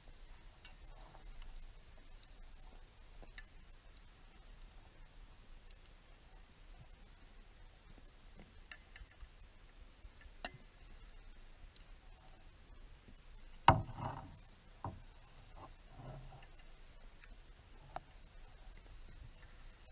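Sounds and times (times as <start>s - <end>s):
faint underwater clicks: 0.1s - 19.9s.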